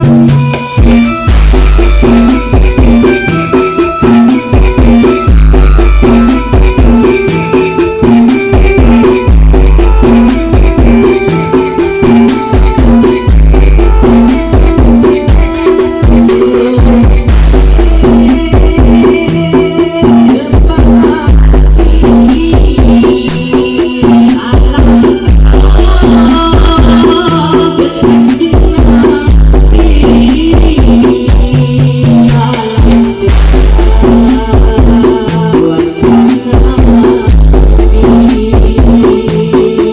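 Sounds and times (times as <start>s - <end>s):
loud dance music: 0.0s - 39.9s.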